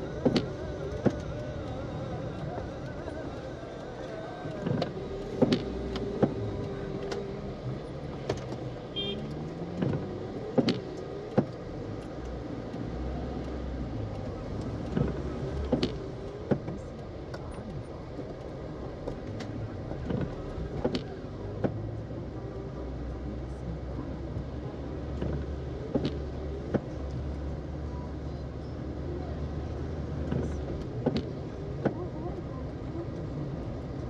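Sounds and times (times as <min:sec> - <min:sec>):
car engine and road drone: 0:00.0 - 0:34.0.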